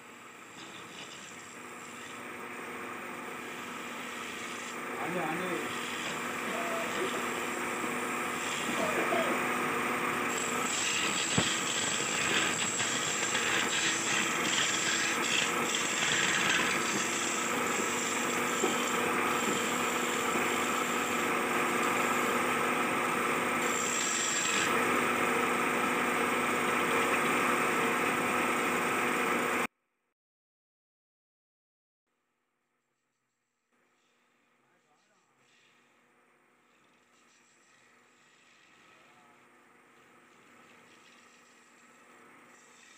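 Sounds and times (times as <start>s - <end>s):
wood lathe humming: 0.0s - 29.7s, 36.8s - 42.9s
chisel scraping spinning wood: 0.5s - 29.6s, 36.7s - 39.2s, 39.9s - 42.9s.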